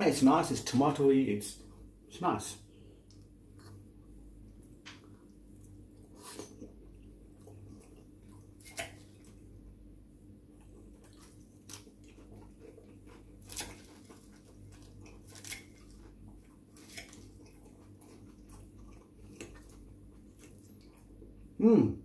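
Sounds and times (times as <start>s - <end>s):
person chewing: 2.8s - 9.7s, 10.4s - 21.6s.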